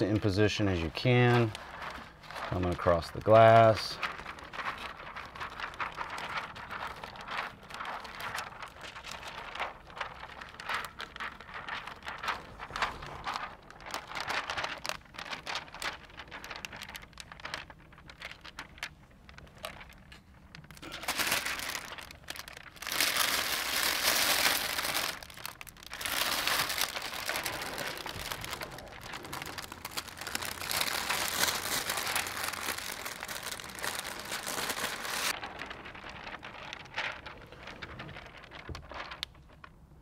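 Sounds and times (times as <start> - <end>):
plastic film crinkling: 0.0 - 40.0.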